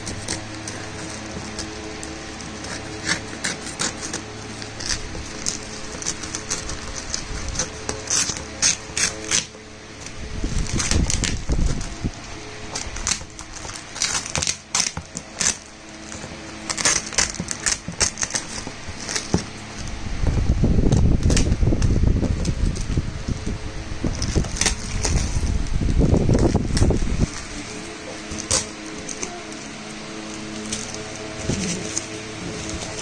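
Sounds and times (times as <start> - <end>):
plastic bag crackling: 0.0 - 33.0
rubbing against cardboard box: 0.0 - 33.0.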